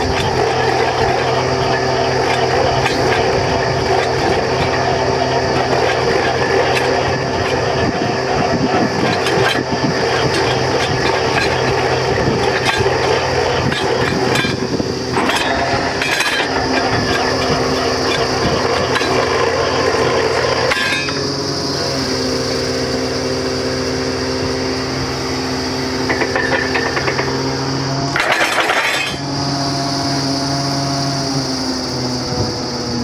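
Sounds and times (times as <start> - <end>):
drilling rig engine running: 0.0 - 33.0
rattling drilling noise: 0.0 - 33.0.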